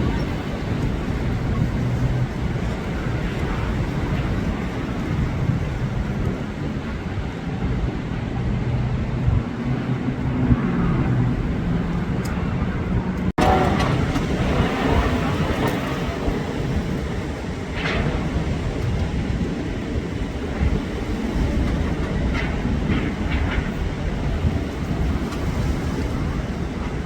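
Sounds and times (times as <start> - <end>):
storm wind roaring in gusts: 0.0 - 27.0.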